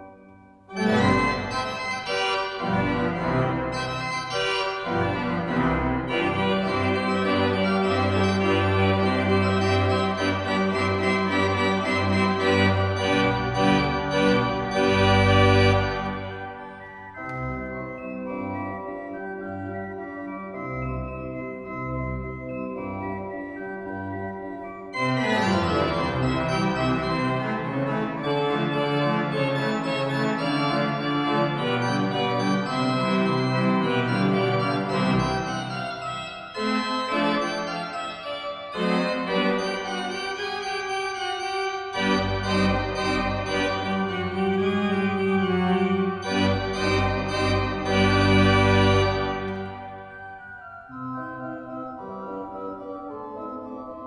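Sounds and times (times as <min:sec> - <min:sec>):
pipe organ chords: 0:00.0 - 0:54.0.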